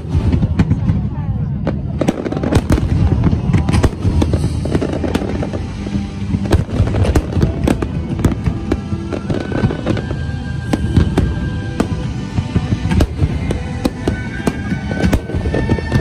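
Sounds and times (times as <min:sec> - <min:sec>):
fireworks bursting and crackling: 0:00.0 - 0:16.0
music: 0:00.0 - 0:16.0.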